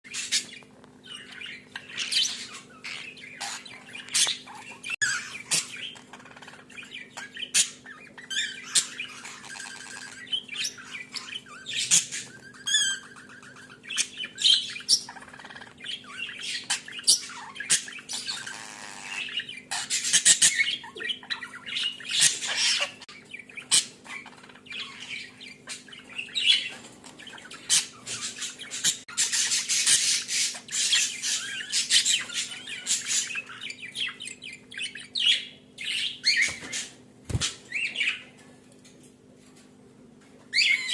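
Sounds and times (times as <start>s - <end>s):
budgerigars chattering: 0.1s - 37.0s.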